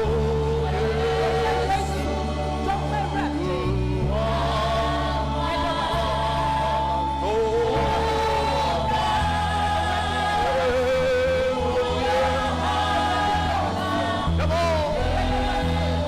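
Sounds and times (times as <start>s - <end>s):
choir singing: 0.0s - 16.0s
keyboard and bass chords: 0.0s - 16.0s.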